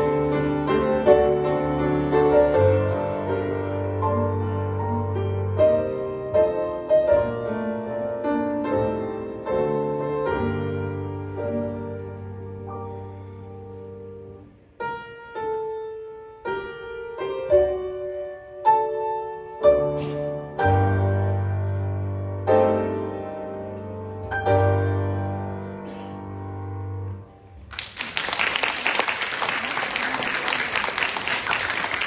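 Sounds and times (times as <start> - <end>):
pianos playing slow chords: 0.0 - 27.6.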